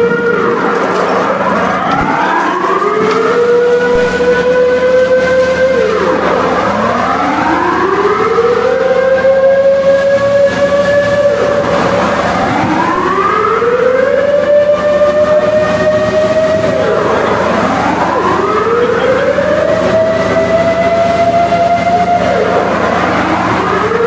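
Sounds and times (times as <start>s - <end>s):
warning siren wailing: 0.0s - 24.0s.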